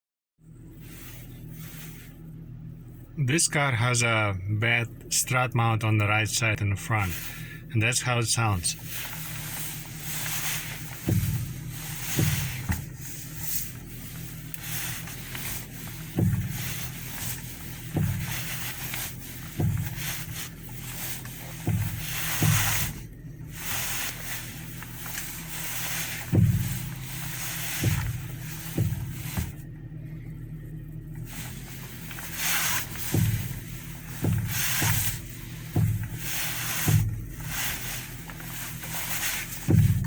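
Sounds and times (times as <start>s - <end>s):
low hum: 0.4s - 40.0s.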